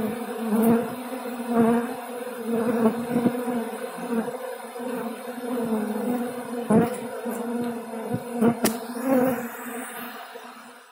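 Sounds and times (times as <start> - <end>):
bees buzzing: 0.0 - 10.9.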